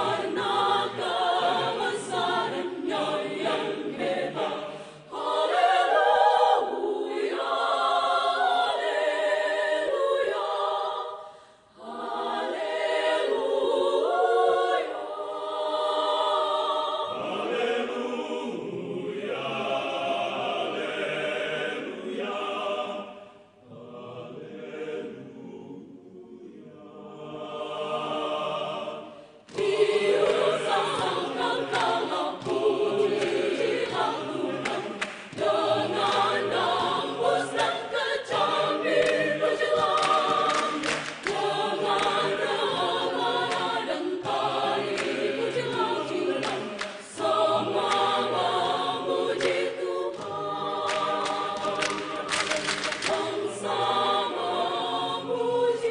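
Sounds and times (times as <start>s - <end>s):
choir singing: 0.0s - 55.9s.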